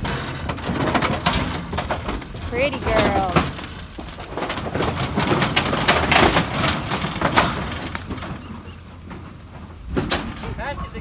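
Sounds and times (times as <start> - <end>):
hooves knocking in metal trailer: 0.0 - 11.0.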